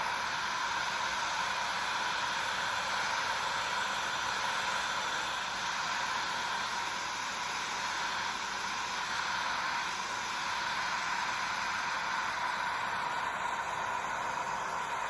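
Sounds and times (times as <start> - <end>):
heat gun blowing air: 0.0 - 15.0.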